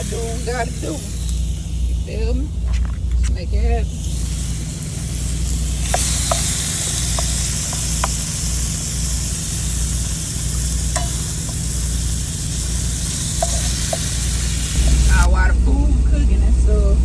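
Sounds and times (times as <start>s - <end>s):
food sizzling in a pan: 0.0s - 15.3s
utensil stirring clicks: 0.0s - 15.3s
steady low hum: 0.0s - 17.0s.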